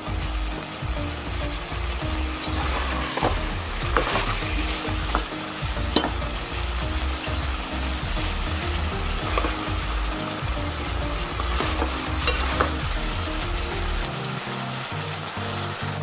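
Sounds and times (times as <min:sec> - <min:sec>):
curry sizzling in a metal pot: 0:00.0 - 0:16.0.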